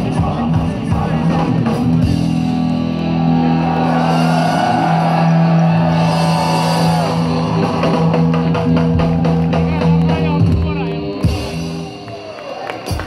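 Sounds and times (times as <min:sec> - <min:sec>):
live rock band: 0:00.0 - 0:13.0.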